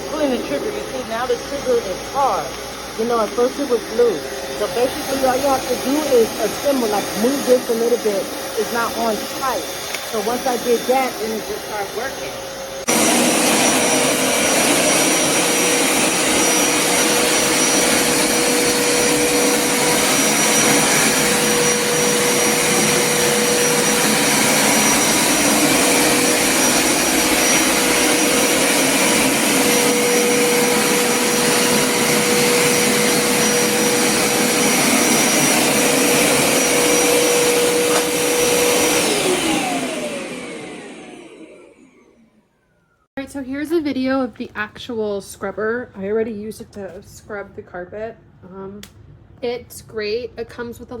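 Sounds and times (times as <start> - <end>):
carpet cleaner motor whining: 0.0 - 43.1.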